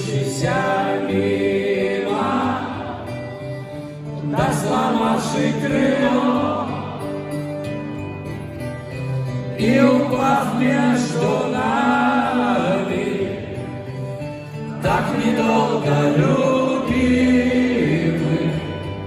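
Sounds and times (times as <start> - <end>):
live band through hall speakers: 0.0 - 19.0.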